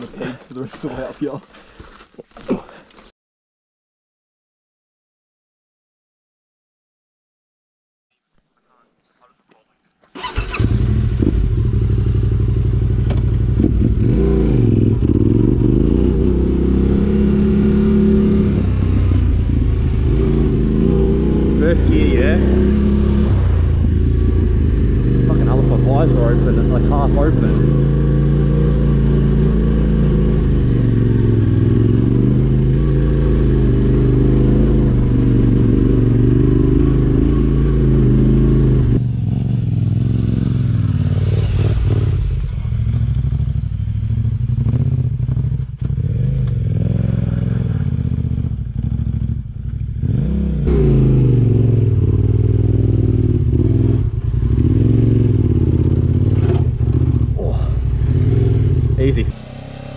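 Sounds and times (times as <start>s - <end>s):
motorcycle engine pulling uphill: 10.0s - 59.9s.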